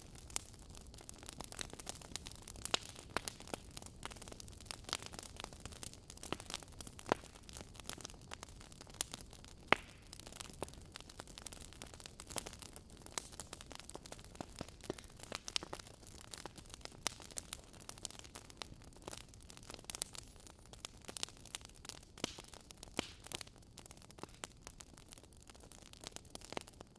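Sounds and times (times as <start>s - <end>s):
soft steady hiss: 0.0s - 26.9s
wood fire crackling and popping: 0.0s - 26.9s.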